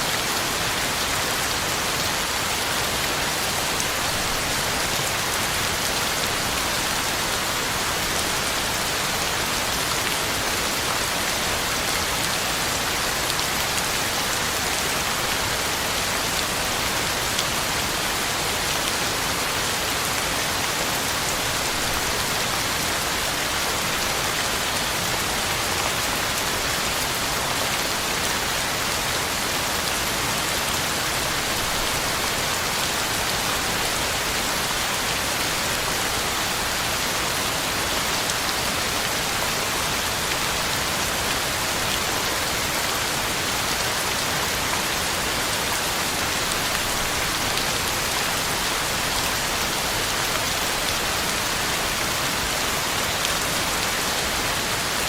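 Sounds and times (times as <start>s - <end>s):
heavy rain on ground and leaves: 0.0s - 55.0s.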